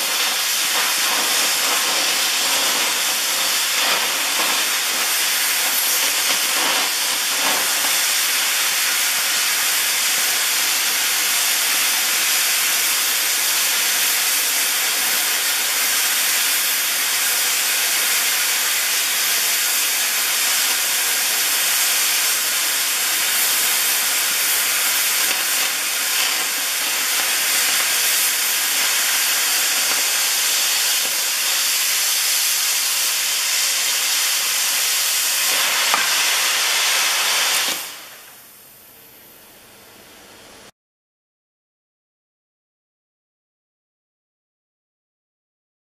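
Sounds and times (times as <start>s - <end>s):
cutting torch hissing: 0.0s - 38.7s.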